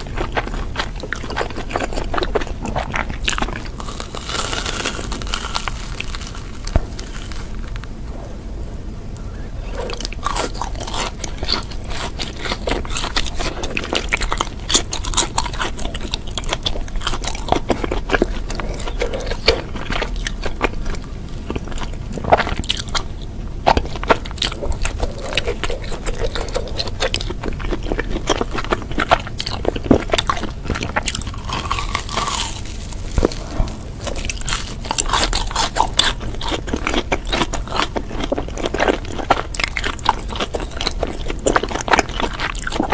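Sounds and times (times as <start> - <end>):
crunching crust: 0.0 - 8.4, 9.2 - 42.9
soft chewing: 0.0 - 8.4, 9.2 - 42.9.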